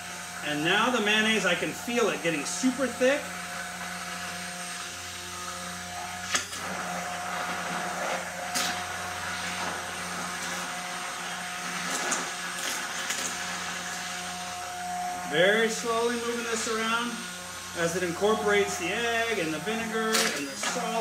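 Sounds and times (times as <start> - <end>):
stick blender running: 0.0 - 21.0.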